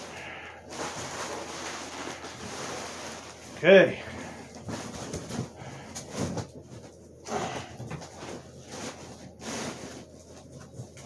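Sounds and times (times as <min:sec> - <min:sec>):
cardboard and packing rustling: 0:00.0 - 0:11.0.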